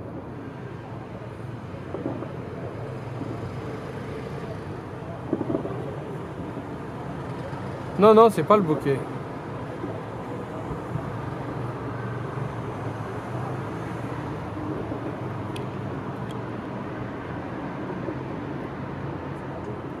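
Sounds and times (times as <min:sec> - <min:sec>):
distant traffic rumble: 0:00.0 - 0:20.0.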